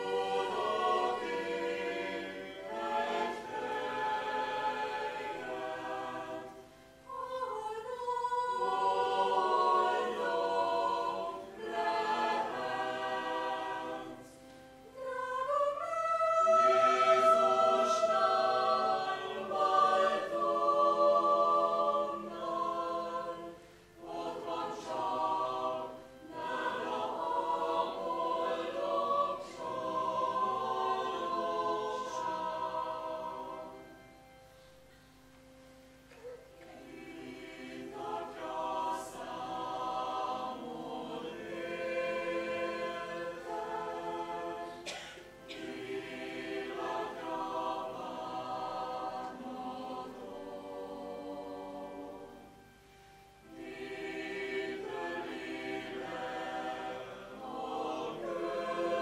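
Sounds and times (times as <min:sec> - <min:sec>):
mixed choir singing: 0:00.0 - 0:34.3, 0:36.2 - 0:59.0.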